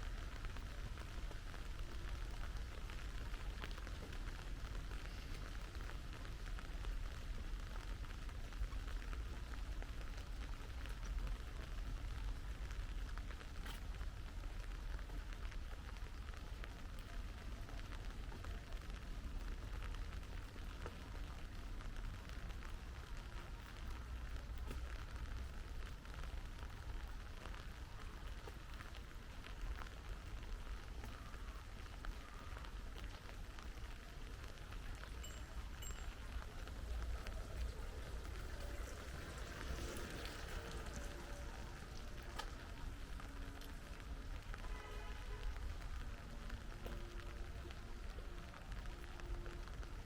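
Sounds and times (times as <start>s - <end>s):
low rain rumble: 0.0s - 50.0s
raindrops pattering: 0.0s - 50.0s.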